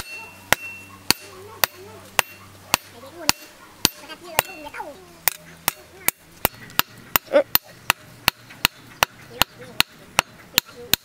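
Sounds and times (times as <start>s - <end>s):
hammer striking metal on anvil: 0.0s - 4.6s, 5.2s - 11.0s.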